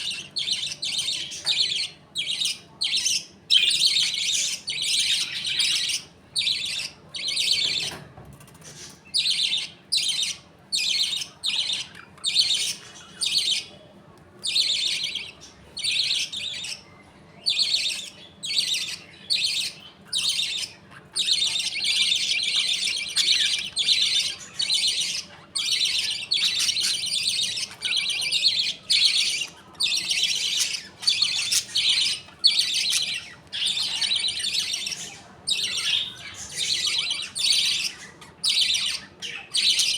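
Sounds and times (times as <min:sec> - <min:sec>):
budgerigars chattering: 0:00.0 - 0:13.8, 0:14.4 - 0:39.9.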